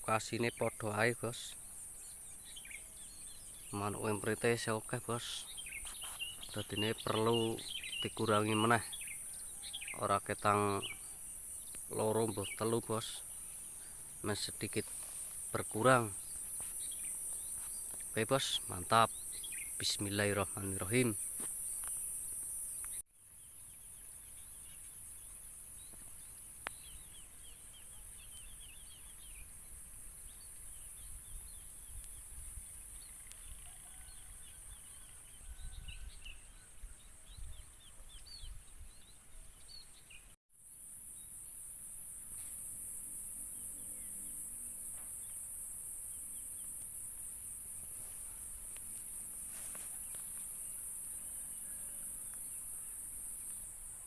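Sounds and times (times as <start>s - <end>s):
pulsing insect chorus: 0.0s - 38.4s, 40.6s - 54.0s
small birds chirping: 0.0s - 40.4s, 43.9s - 54.0s.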